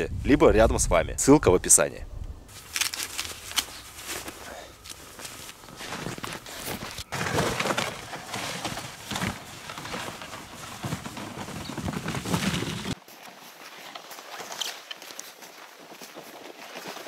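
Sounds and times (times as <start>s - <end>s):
footsteps crunching in snow: 2.5s - 17.0s.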